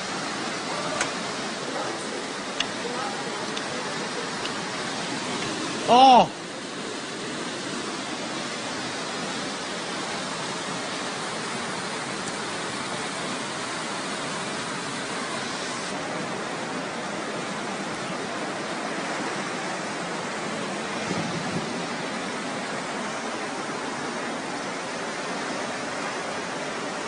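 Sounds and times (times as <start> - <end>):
fast-flowing floodwater rushing: 0.0 - 27.0.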